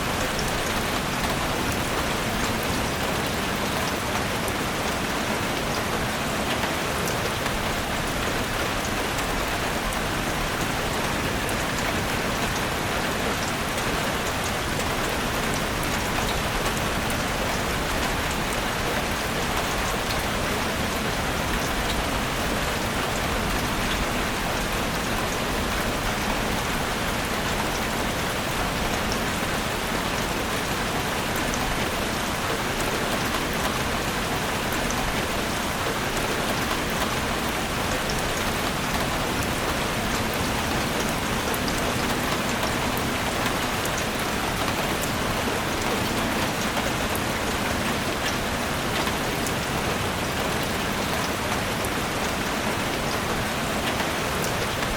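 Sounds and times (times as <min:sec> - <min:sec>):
rain falling on forest: 0:00.0 - 0:54.9.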